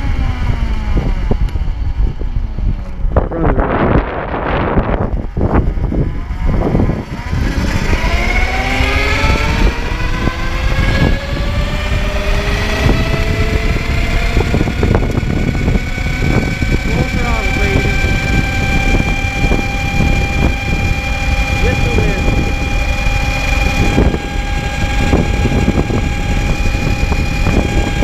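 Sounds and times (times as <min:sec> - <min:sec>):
electric motorcycle whine: 0:00.0 - 0:28.0
wind on microphone: 0:00.0 - 0:28.0.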